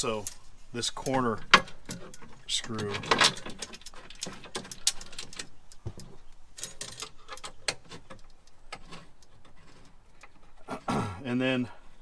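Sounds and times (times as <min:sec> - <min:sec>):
metal screws and washers clinking: 0:00.0 - 0:10.6.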